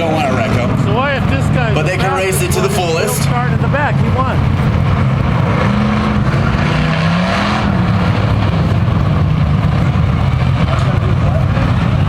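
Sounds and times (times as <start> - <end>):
race truck engines running: 0.0 - 12.0.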